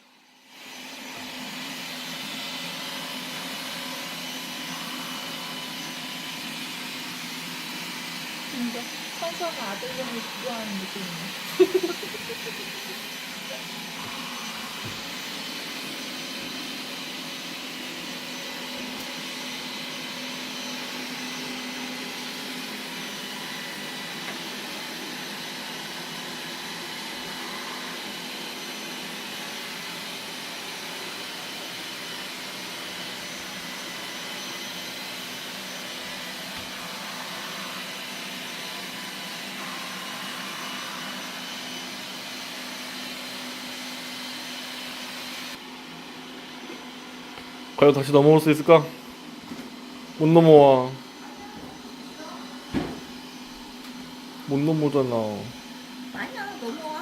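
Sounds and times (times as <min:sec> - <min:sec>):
robot vacuum cleaner whirring: 0:00.0 - 0:57.0.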